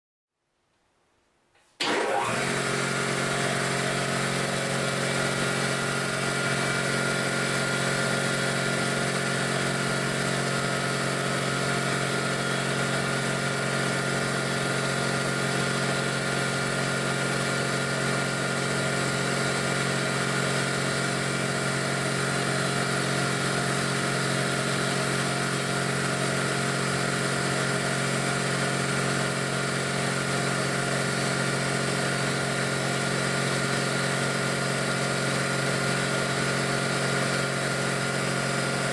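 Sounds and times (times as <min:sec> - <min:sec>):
air compressor running: 0:01.8 - 0:38.9.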